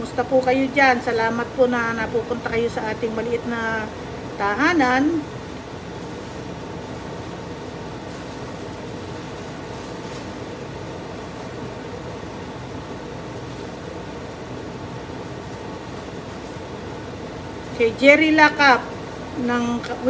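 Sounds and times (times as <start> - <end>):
fan whooshing with low hum: 0.0 - 20.0.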